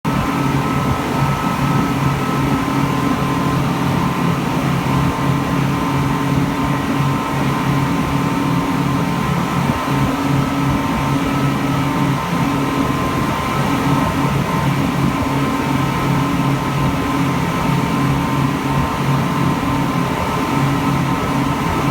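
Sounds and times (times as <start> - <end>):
speedboat engine droning: 0.1 - 21.9.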